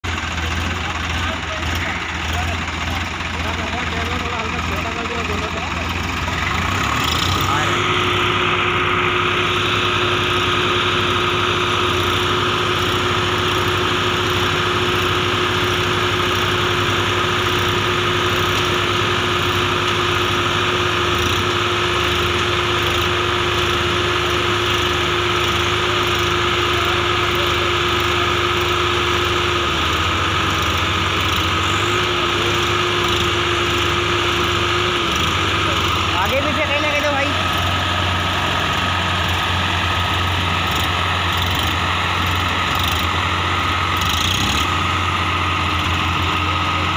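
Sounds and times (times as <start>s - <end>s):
tractor engines running hard: 0.0s - 46.9s.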